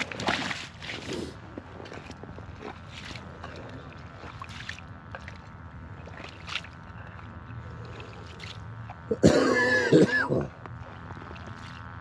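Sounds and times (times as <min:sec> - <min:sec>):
skimmer sloshing slush: 0:00.0 - 0:09.2, 0:10.7 - 0:12.0
low background rumble: 0:00.0 - 0:12.0.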